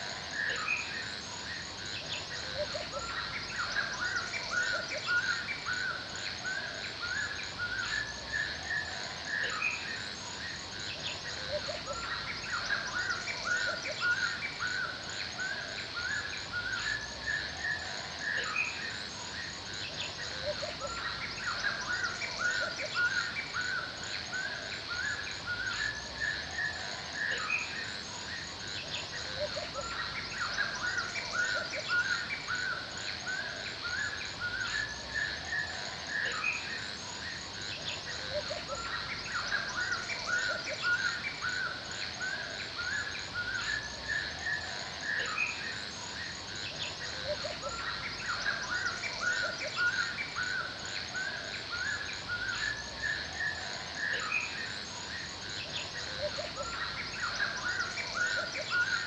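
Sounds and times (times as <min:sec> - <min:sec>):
birds chirping and singing: 0:00.0 - 0:59.0
insects chirring: 0:00.0 - 0:59.0.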